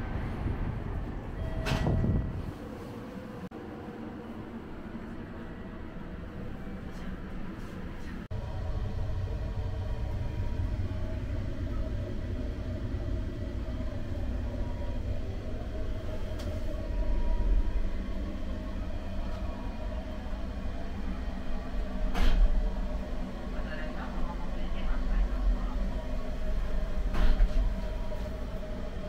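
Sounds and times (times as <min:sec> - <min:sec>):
train wheels rumbling on rail: 0:00.0 - 0:03.4, 0:05.6 - 0:29.0
faint steady tones: 0:00.0 - 0:29.0.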